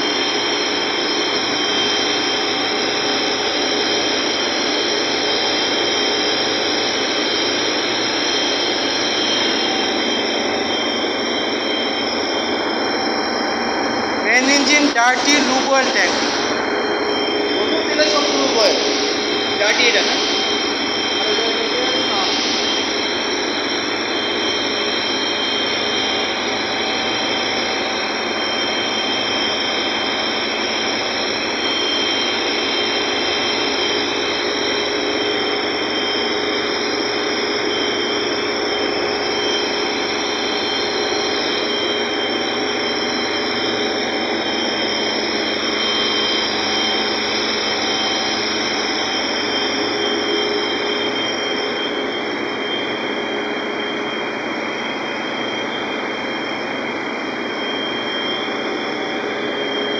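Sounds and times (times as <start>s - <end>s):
engine room machinery running: 0.0s - 59.9s
high-pitched whine: 0.0s - 59.9s.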